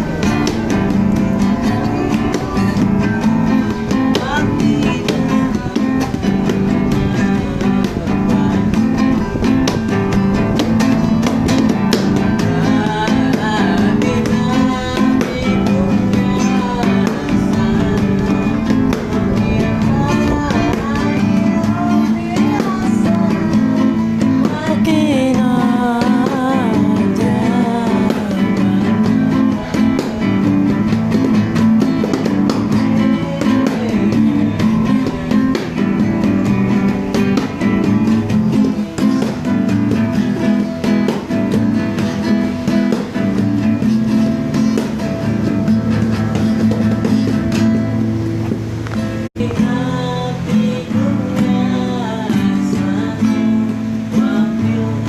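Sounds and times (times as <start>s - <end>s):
person singing: 0.0s - 42.0s, 49.3s - 55.0s
acoustic guitar strumming: 0.0s - 55.0s.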